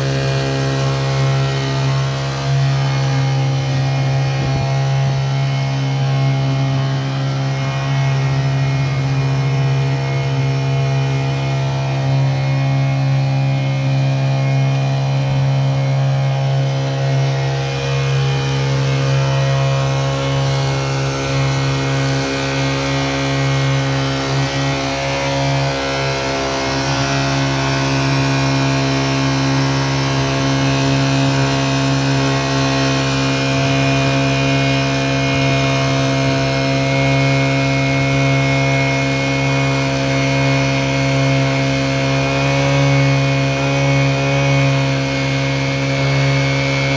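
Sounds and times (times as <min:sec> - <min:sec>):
small petrol engine running: 0:00.0 - 0:46.9.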